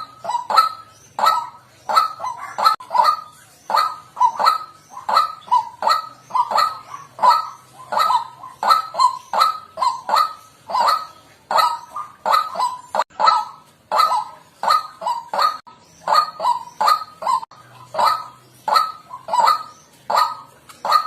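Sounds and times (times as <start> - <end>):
waterhen honking calls: 0.0 - 21.0.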